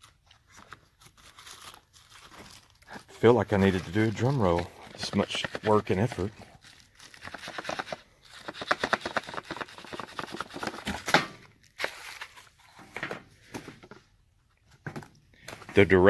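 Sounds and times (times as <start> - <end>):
plastic and paper packaging rustling: 0.0 - 14.1.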